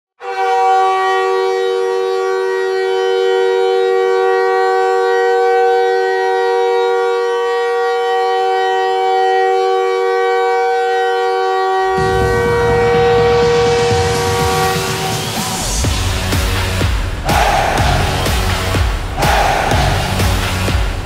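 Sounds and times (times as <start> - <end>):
goal horn chord: 0.2 - 21.0.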